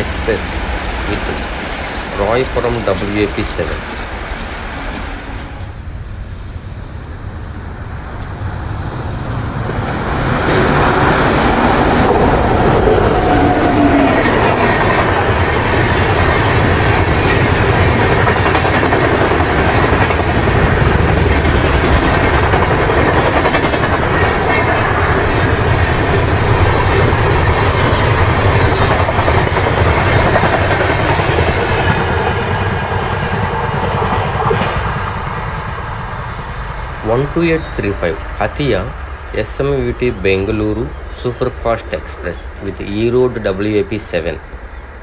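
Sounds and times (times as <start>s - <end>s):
train wheels rumbling on rails: 0.0s - 6.4s, 7.8s - 45.0s.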